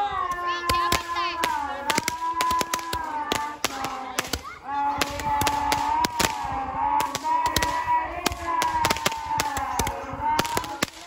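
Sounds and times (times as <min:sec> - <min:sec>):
fireworks cracking and banging: 0:00.2 - 0:11.0.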